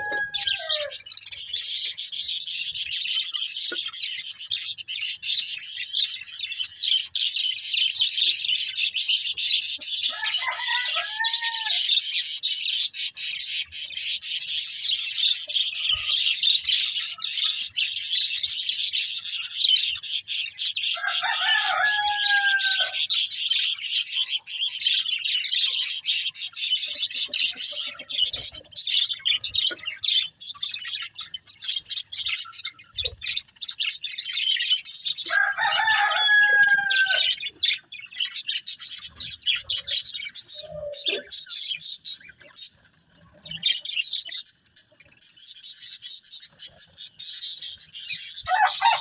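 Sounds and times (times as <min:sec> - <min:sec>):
budgerigars chattering: 0:00.0 - 0:42.8, 0:43.4 - 0:49.0.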